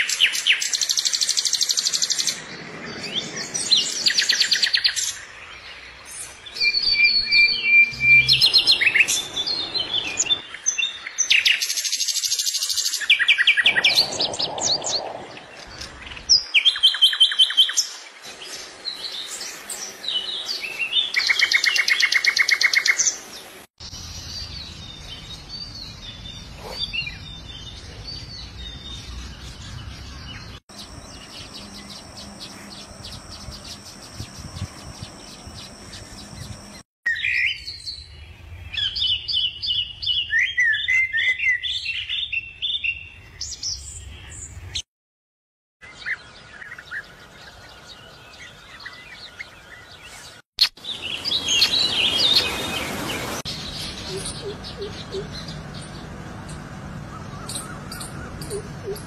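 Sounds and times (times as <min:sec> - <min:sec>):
songbirds chirping and trilling: 0:00.0 - 0:44.8, 0:45.8 - 0:59.0.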